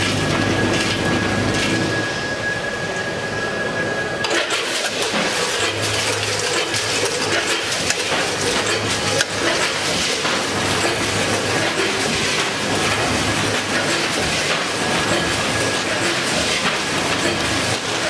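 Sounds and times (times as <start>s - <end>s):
packing machine running: 0.0s - 3.6s, 4.2s - 18.0s.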